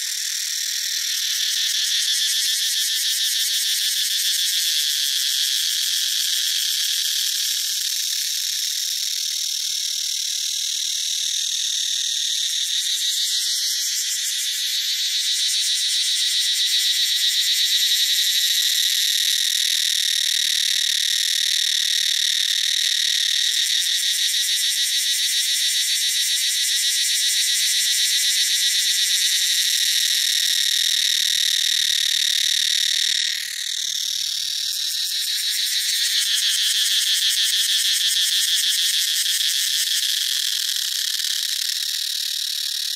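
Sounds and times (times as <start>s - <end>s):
cicadas singing: 0.0s - 42.9s.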